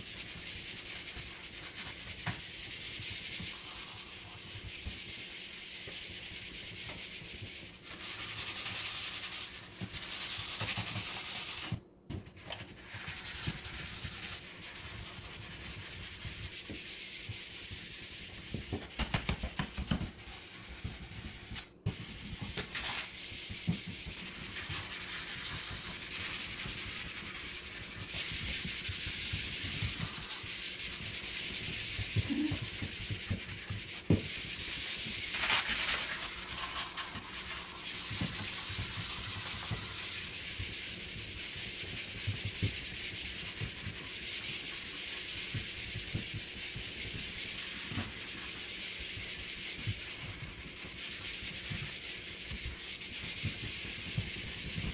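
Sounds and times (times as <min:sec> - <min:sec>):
sandpaper rasping on wood: 0:00.0 - 0:11.8, 0:12.7 - 0:18.7, 0:19.3 - 0:54.9.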